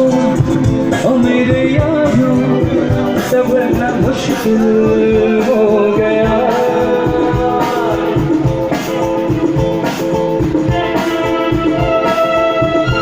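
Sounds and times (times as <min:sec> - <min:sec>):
guitar melody: 0:00.0 - 0:13.0
steady drum beat: 0:00.0 - 0:13.0.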